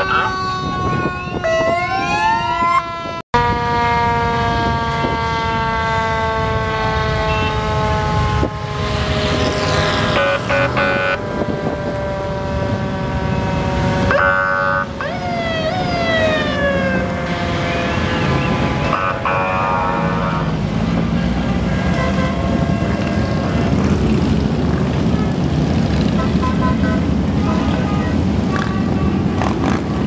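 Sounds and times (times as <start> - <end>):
fire engine sirens: 0.0 - 30.0
motorcycle engines rumbling: 0.0 - 30.0.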